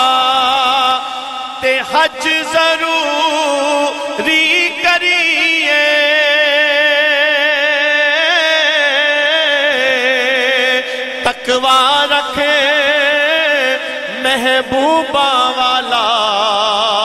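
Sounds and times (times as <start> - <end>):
man singing with vibrato: 0.0 - 17.0.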